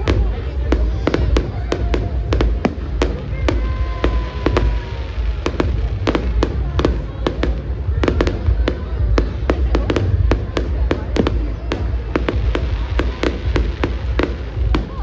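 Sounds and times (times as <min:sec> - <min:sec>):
deep rumble: 0:00.0 - 0:15.0
fireworks bangs and crackles: 0:00.0 - 0:15.0.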